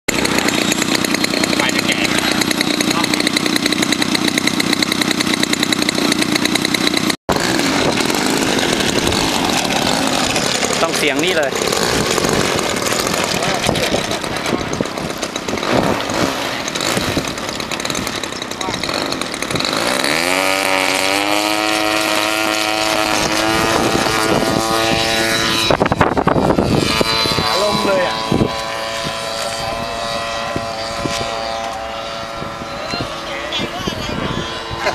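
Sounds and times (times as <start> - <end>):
propeller aircraft engine buzzing: 0.1 - 34.9.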